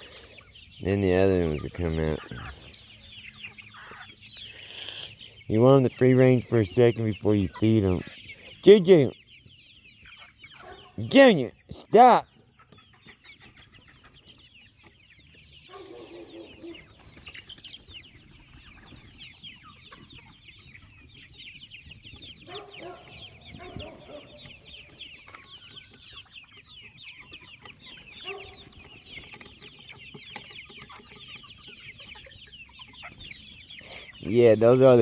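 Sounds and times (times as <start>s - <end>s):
chicks peeping: 0.0s - 35.0s.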